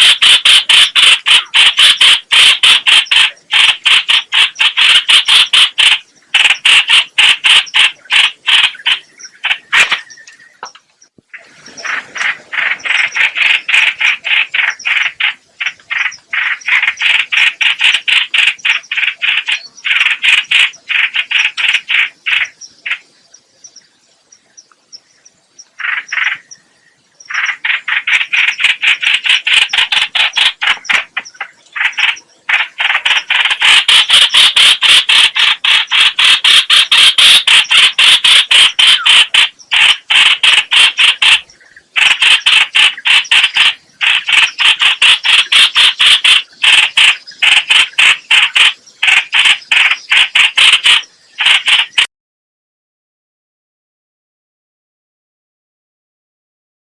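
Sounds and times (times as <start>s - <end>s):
bird harsh rapid chattering: 0.0s - 10.4s, 11.7s - 23.1s, 25.8s - 26.5s, 27.3s - 52.1s.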